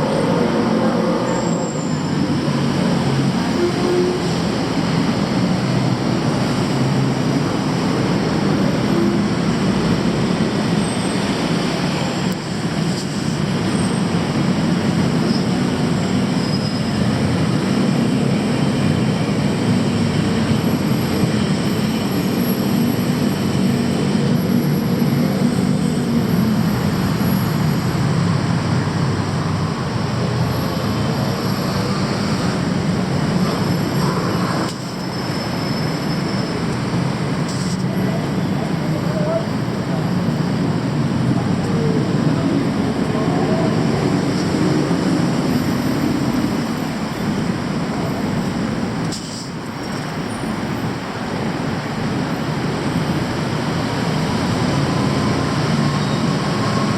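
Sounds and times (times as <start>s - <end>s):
rumble of vehicles: 0.0s - 56.9s.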